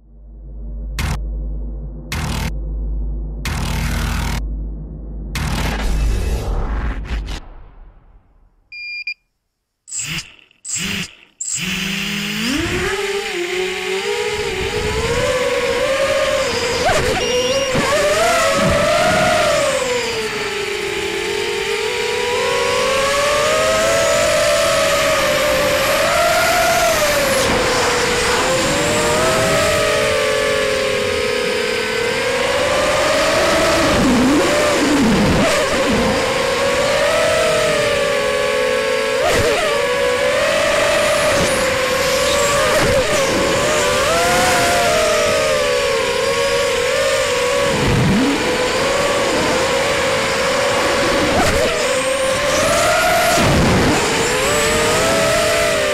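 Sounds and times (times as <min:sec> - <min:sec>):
quadcopter motors whining: 0:09.9 - 0:55.9.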